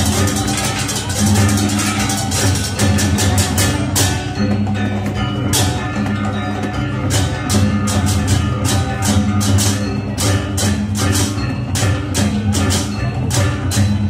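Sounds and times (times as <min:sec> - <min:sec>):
gamelan music: 0:00.0 - 0:14.0.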